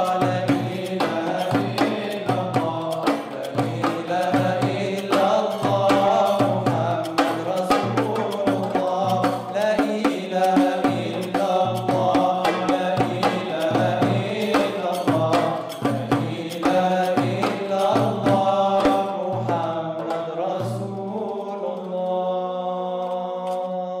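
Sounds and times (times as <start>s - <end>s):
frame drum strokes: 0.0s - 20.9s
male voices singing devotional song: 0.0s - 24.0s.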